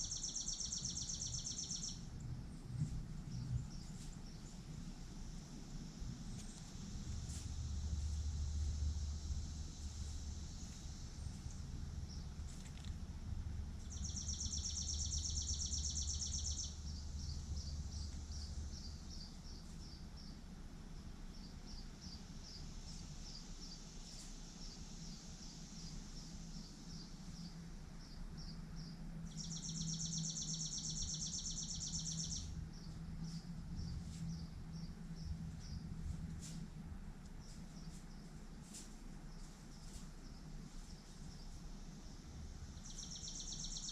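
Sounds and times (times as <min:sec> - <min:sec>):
low background rumble: 0:00.0 - 0:43.9.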